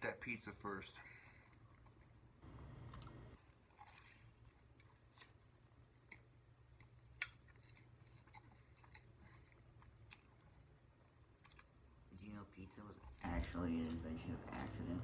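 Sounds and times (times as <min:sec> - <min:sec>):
low steady hum: 0:00.4 - 0:03.4, 0:04.3 - 0:15.0
faint chewing: 0:00.9 - 0:15.0.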